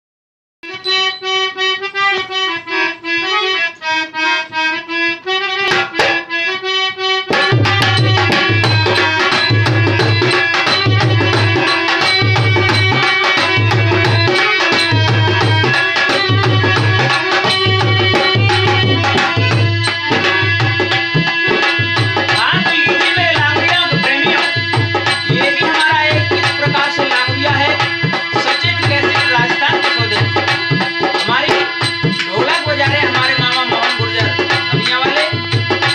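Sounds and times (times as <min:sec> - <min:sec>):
harmonium melody: 0:00.6 - 0:35.9
dholak drum beat: 0:05.6 - 0:35.9.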